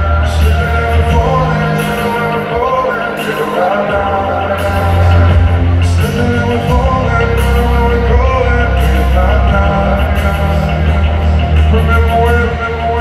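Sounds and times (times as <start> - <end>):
live rock band: 0.0 - 13.0
person singing: 0.0 - 13.0.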